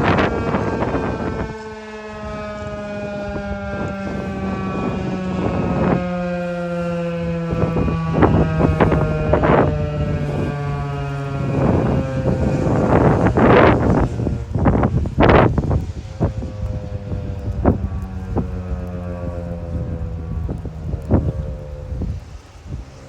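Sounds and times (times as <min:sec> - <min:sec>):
warning siren winding down: 0:00.0 - 0:23.0
wind gusts on microphone: 0:00.0 - 0:23.0.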